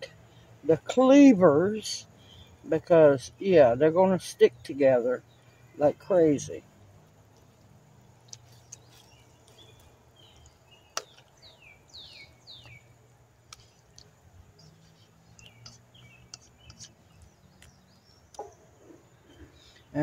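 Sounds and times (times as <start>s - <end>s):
bird chirping: 0.0s - 20.0s
low steady hum: 0.0s - 20.0s.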